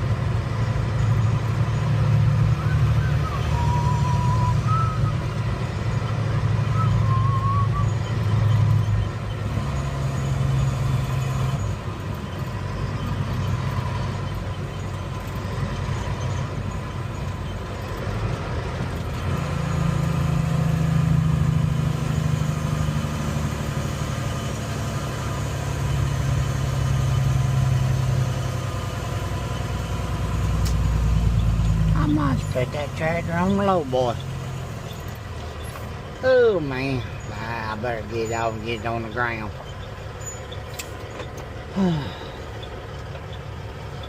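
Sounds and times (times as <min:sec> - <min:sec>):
road noise: 0:00.0 - 0:44.0
truck engine: 0:00.0 - 0:44.0.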